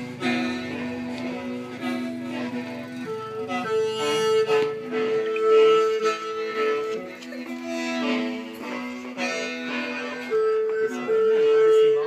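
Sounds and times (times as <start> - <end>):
mouth organ long held notes: 0.0 - 12.0.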